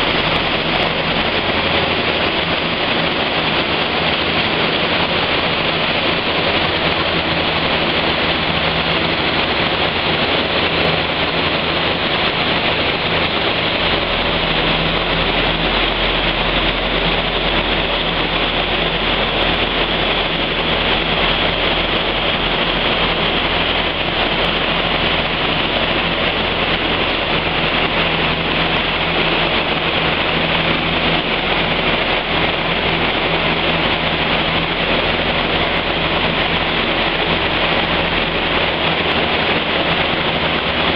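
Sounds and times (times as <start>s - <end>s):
low engine hum: 0.0s - 40.9s
steady rush of noise: 0.0s - 40.9s.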